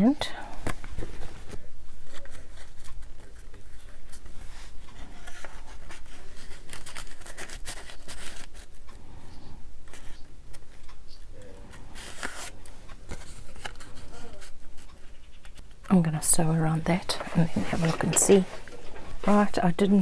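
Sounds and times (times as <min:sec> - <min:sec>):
paper rustling and scratching: 0:00.6 - 0:20.0.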